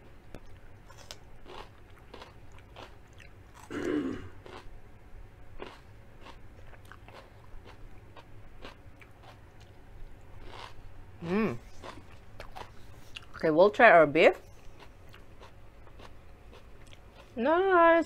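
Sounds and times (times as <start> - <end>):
crunchy chewing of raw vegetable: 0.3 - 4.7, 5.6 - 13.4, 14.5 - 17.4.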